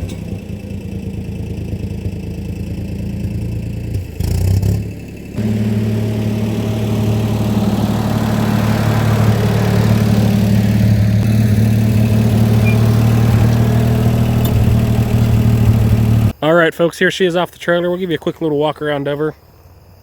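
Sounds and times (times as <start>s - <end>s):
backhoe engine running: 0.0s - 16.4s.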